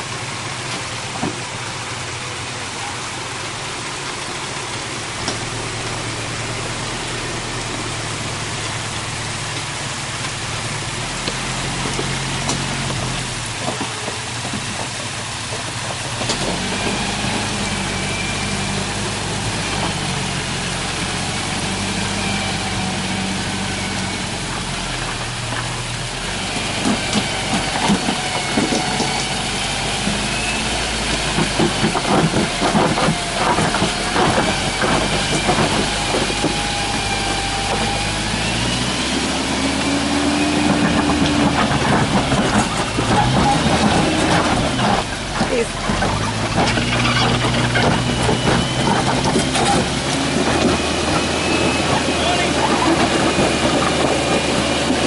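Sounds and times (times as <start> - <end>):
engine running under load: 0.0 - 55.0.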